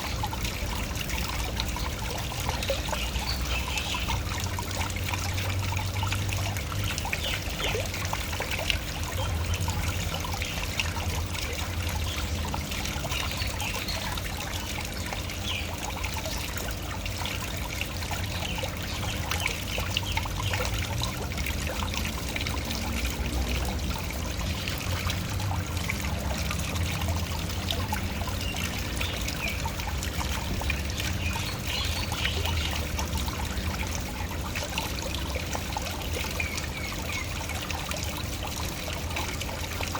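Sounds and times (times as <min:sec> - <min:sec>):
small splashes and trickles: 0:00.0 - 0:39.9.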